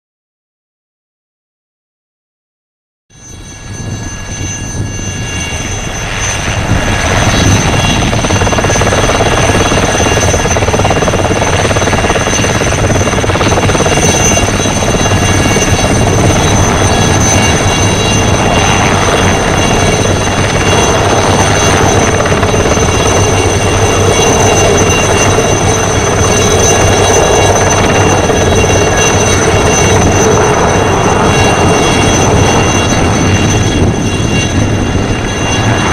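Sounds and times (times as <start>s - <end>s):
helicopter rotor noise: 3.1s - 35.9s
helicopter turbine whine: 3.1s - 35.9s.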